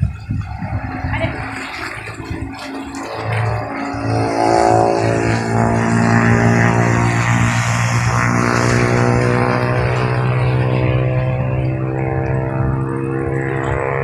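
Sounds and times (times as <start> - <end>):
boat engine running steadily: 0.0 - 14.0
water noise: 0.0 - 14.0
wind noise: 0.0 - 14.0.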